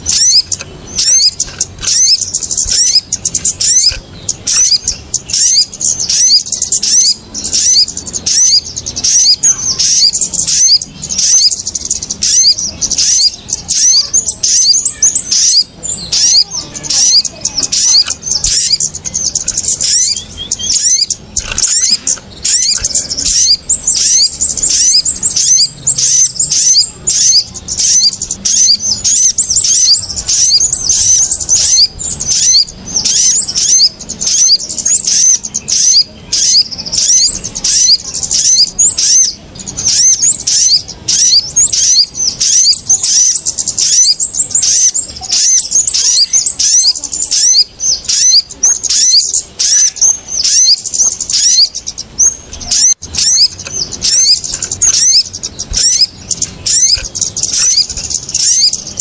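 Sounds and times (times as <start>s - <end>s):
small birds chirping agitatedly: 0.0s - 59.0s.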